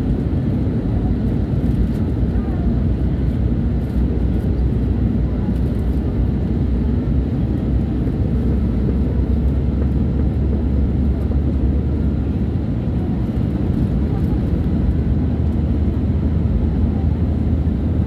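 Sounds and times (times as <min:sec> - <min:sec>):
airliner engines rumbling: 0:00.0 - 0:18.0.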